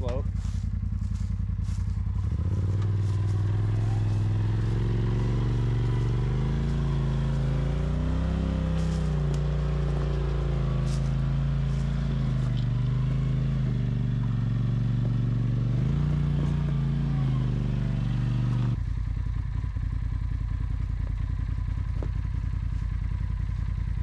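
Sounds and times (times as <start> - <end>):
utv engine at low revs: 0.0 - 24.0.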